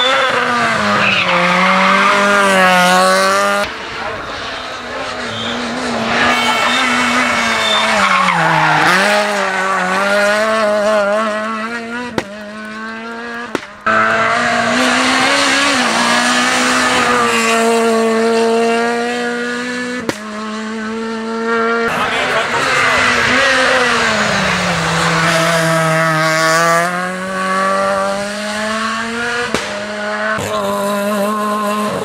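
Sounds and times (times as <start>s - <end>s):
rally car engine revving high: 0.0s - 32.0s.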